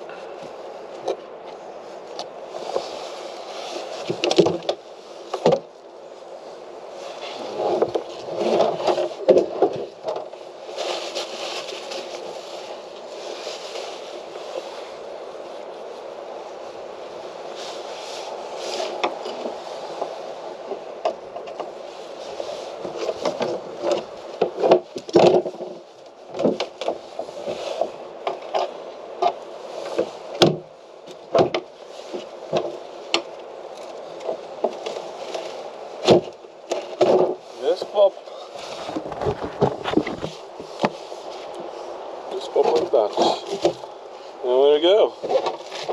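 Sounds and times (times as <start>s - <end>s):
wood scraping: 0.0s - 16.3s, 17.2s - 45.9s.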